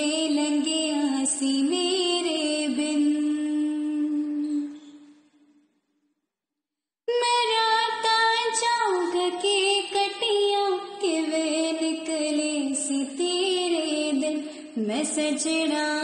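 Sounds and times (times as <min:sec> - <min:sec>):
young woman singing wordless melody: 0:00.0 - 0:05.5, 0:07.1 - 0:16.0.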